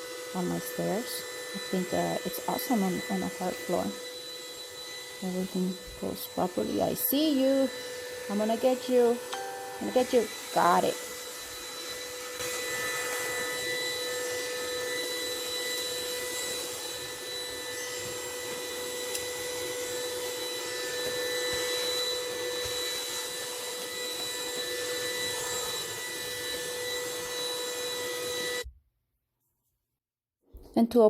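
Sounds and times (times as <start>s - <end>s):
cordless vacuum cleaner running: 0.0s - 28.7s.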